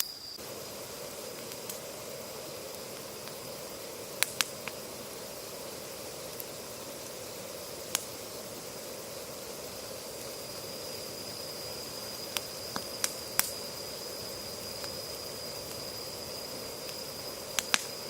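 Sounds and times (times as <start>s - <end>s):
steady hiss: 0.0s - 18.0s
wood campfire crackling: 0.0s - 18.0s.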